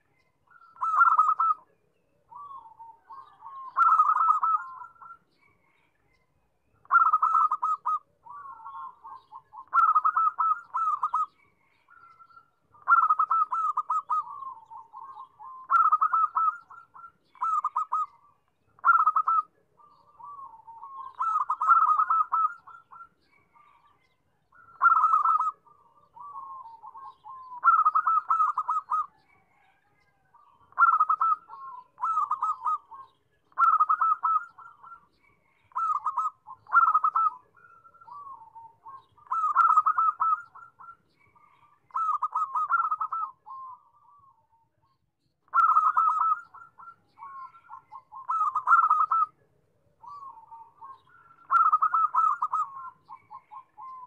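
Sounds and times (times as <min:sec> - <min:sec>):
dove cooing: 0:00.0 - 0:05.8, 0:06.8 - 0:44.6, 0:45.5 - 0:54.0.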